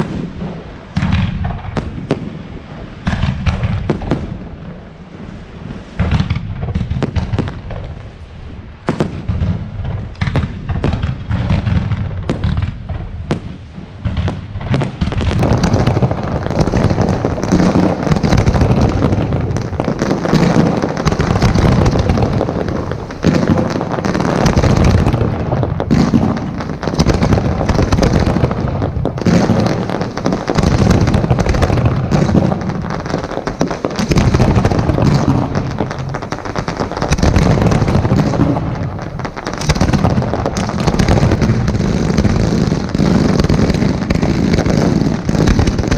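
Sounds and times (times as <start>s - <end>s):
fireworks bangs: 0.0s - 45.9s
fireworks crackling: 0.0s - 45.9s.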